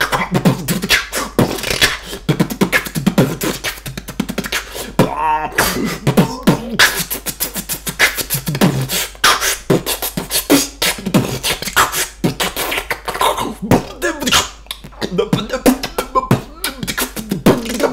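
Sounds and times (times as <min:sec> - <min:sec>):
man beatboxing: 0:00.0 - 0:17.9
sliding vocal tones: 0:00.0 - 0:17.9.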